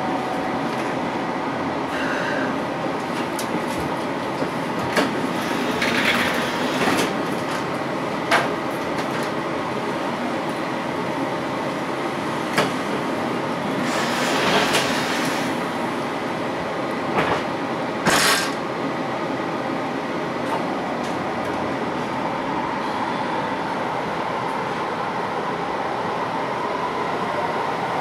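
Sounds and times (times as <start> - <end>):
train wheels and motors rumbling: 0.0 - 25.8.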